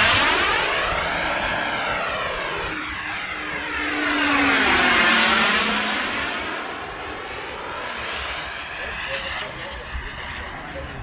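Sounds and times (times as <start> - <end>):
model jet engine flying past: 0.0 - 11.0.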